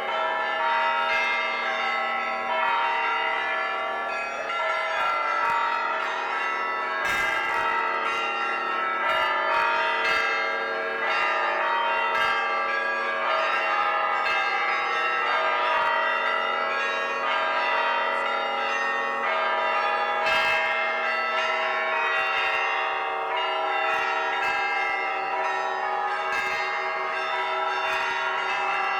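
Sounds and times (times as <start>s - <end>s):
church bells ringing a peal: 0.0s - 28.9s.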